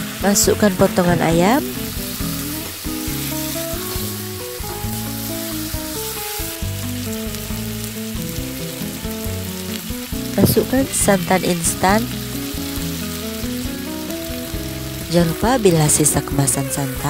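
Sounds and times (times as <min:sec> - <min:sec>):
food sizzling in hot oil: 0:00.0 - 0:17.0
light background music: 0:00.0 - 0:17.0.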